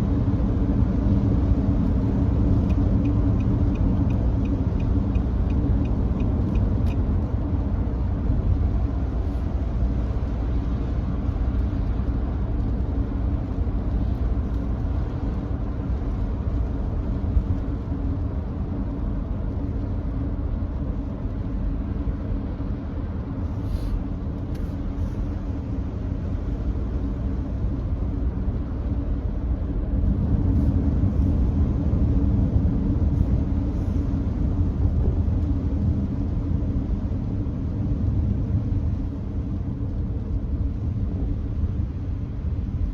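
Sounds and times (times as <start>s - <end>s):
road rumble and tyre noise: 0.0s - 42.9s.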